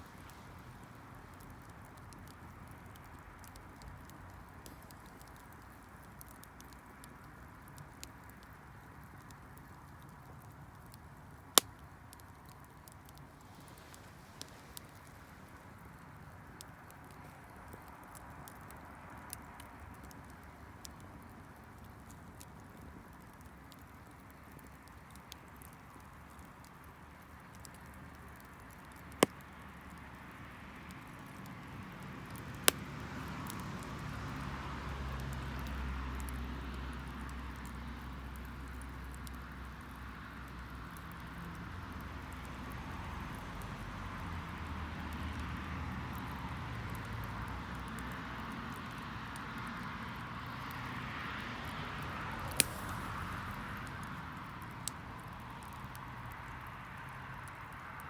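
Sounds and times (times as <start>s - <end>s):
sharp pops from fire: 0.0s - 30.2s, 30.8s - 57.1s
wood fire crackling: 0.0s - 58.0s.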